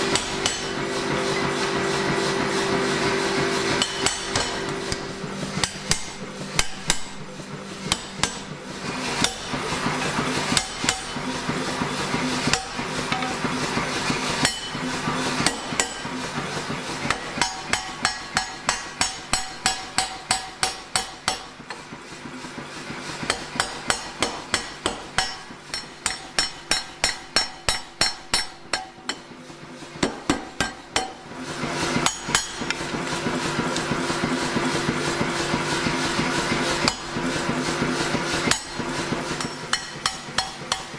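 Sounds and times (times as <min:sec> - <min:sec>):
power hammer striking steel: 0:00.0 - 0:21.9, 0:23.2 - 0:35.1, 0:36.0 - 0:40.9.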